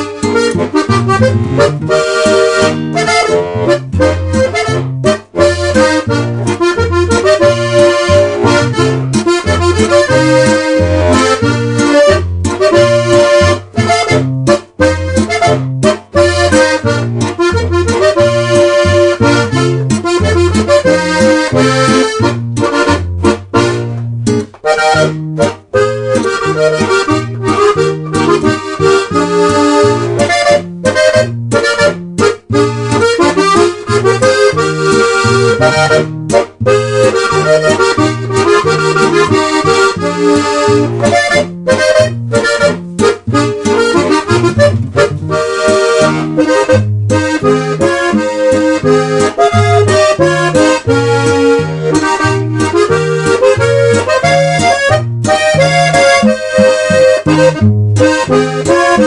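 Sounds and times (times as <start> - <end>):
instrumental music with bass: 0.0 - 59.0.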